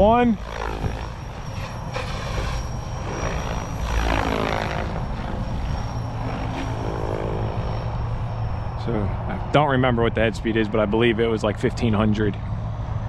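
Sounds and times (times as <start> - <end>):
helicopter rotor and motor whining: 0.0 - 13.0.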